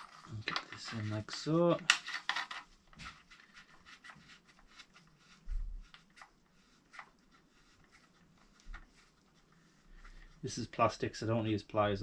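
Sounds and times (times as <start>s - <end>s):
gloved hands rustling: 0.0s - 11.4s.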